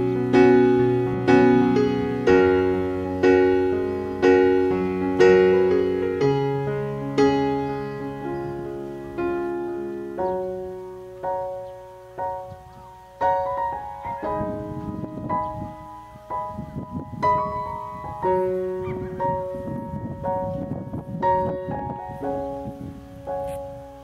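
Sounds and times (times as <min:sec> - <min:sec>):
soft piano chords: 0:00.0 - 0:24.0.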